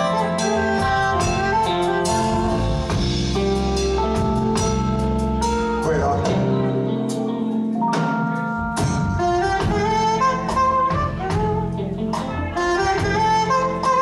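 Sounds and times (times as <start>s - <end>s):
saxophone melody: 0.0s - 5.8s, 6.4s - 14.0s
bass guitar: 0.0s - 14.0s
drum kit: 0.0s - 14.0s
electric guitar: 0.0s - 14.0s.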